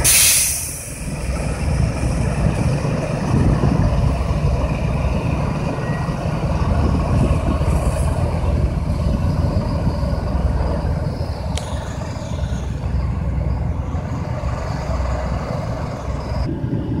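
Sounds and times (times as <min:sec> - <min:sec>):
truck engines running: 0:00.0 - 0:17.0.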